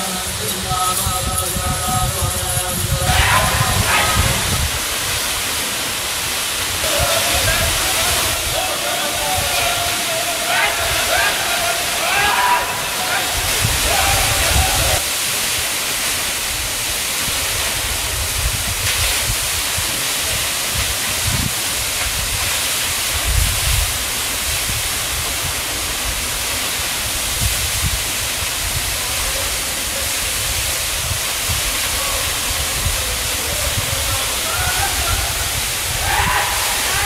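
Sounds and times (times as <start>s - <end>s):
waterfall roaring: 0.0s - 37.0s.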